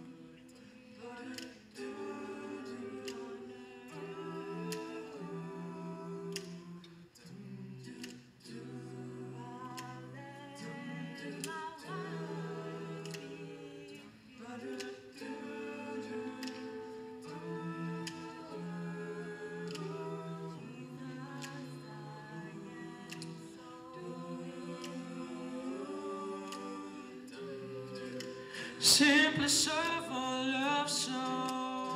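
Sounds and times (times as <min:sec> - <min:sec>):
vocal group singing in harmony: 0:00.0 - 0:31.9.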